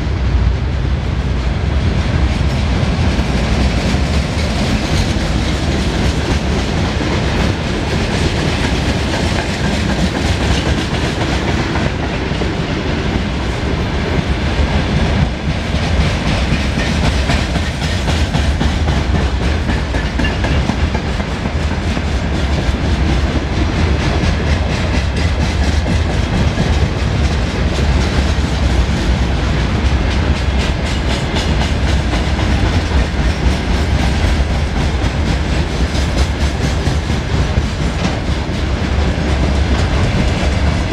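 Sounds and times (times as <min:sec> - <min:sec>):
freight train rumbling past: 0:00.0 - 0:40.9
wheels clacking over rail joints: 0:02.1 - 0:40.9.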